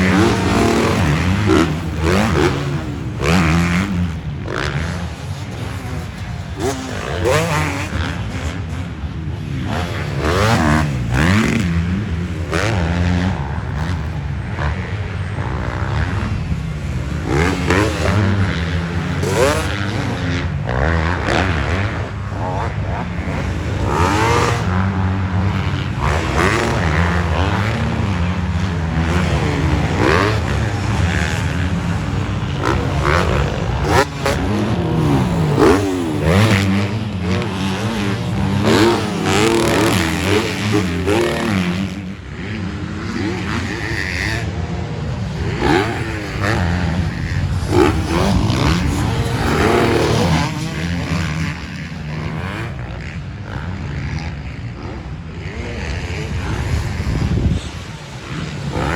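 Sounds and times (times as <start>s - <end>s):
motocross bikes revving: 0.0s - 58.9s.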